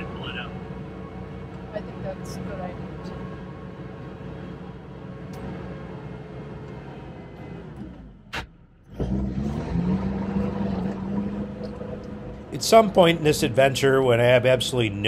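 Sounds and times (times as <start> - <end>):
diesel engine heard from cab: 0.0 - 15.0.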